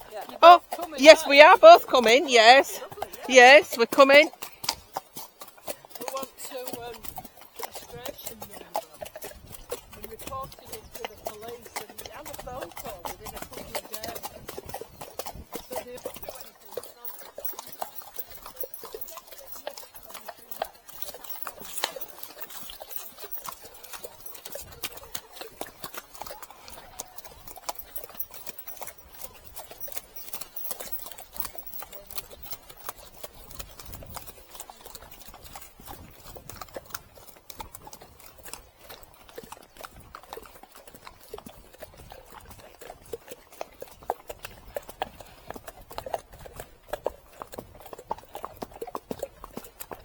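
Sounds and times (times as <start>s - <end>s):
horse hooves clip-clopping: 0.0s - 50.0s.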